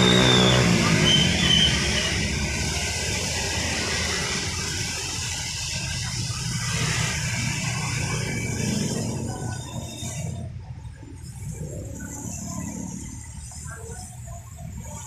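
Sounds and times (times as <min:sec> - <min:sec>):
vehicle engines at low speed: 0:00.0 - 0:15.0.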